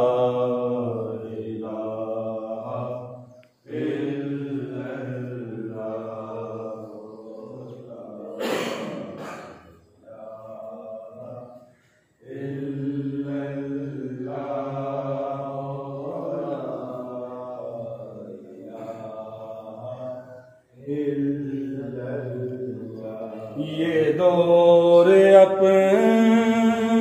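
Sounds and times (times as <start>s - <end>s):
man chanting in held notes: 0.0s - 27.0s.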